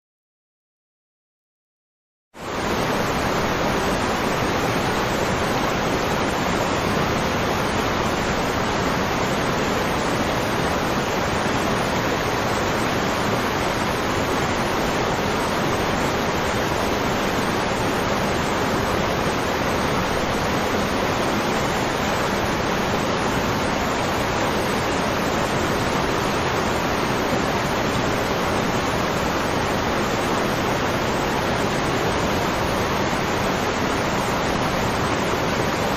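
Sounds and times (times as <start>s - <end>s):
waterfall rushing: 2.4s - 35.9s.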